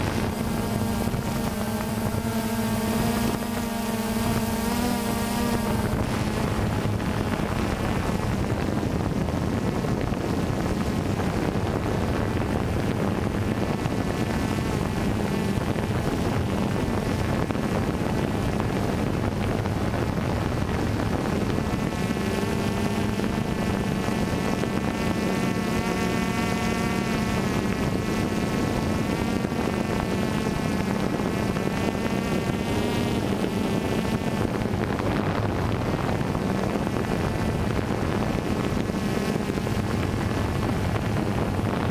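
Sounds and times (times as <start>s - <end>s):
drone propellers buzzing: 0.0s - 41.9s
high motor whine: 0.0s - 41.9s.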